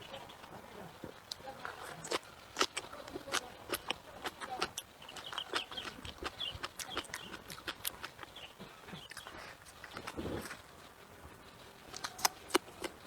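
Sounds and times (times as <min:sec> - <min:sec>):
crunching and chewing: 0:00.0 - 0:13.0.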